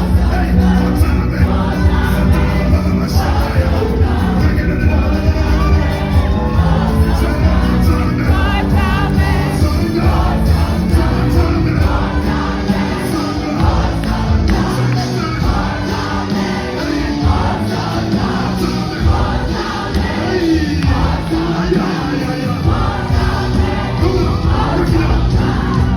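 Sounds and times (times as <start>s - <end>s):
choir singing with music: 0.0s - 25.9s.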